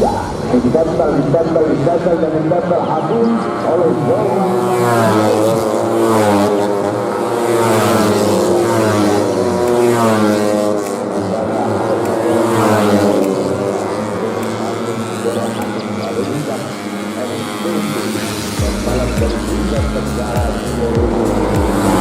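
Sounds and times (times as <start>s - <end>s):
racing motorcycles revving: 0.0s - 22.0s.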